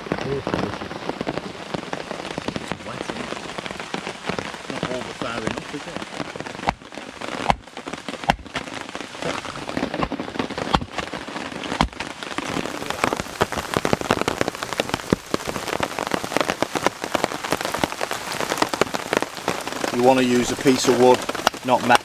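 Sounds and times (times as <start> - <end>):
rain on a tarp: 0.0 - 22.0.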